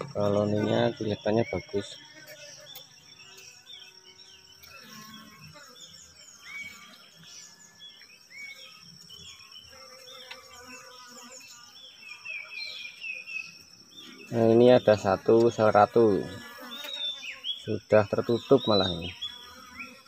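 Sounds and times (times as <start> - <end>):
bees humming: 0.0 - 20.0
high insect drone: 0.0 - 20.0
small birds chirping: 0.0 - 20.0.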